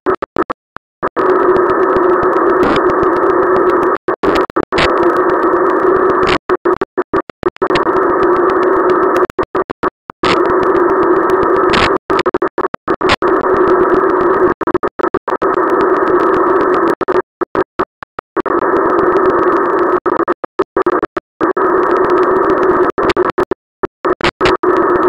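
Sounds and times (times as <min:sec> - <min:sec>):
tv static hiss: 0:00.1 - 0:25.0.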